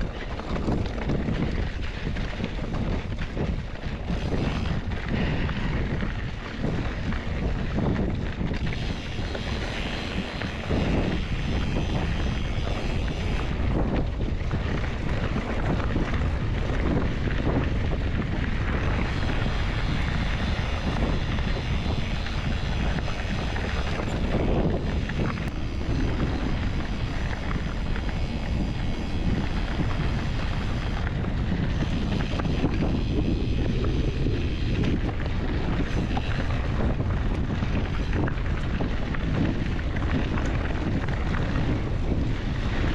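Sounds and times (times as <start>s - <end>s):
bike rolling over trail: 0.0s - 42.9s
wind on microphone: 0.0s - 42.9s.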